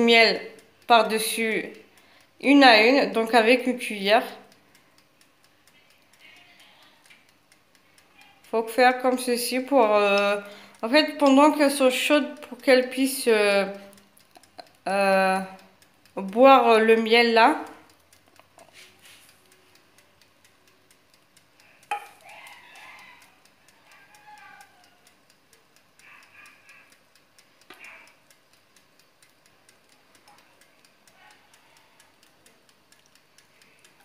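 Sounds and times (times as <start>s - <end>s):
faint clock ticking: 0.0s - 34.0s.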